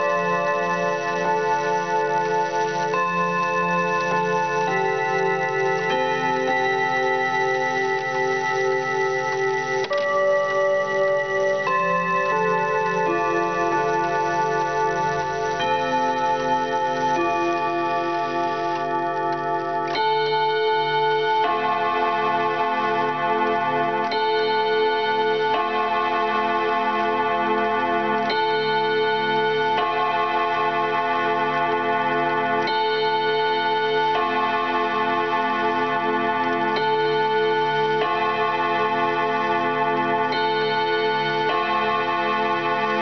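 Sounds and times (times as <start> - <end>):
wall clock chime rods ringing: 0.0 - 43.0.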